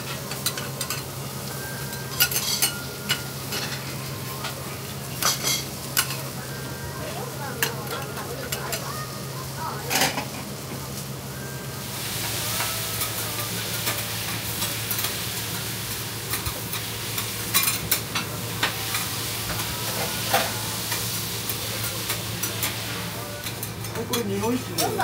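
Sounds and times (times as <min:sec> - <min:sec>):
food sizzling on a griddle: 0:00.0 - 0:25.0.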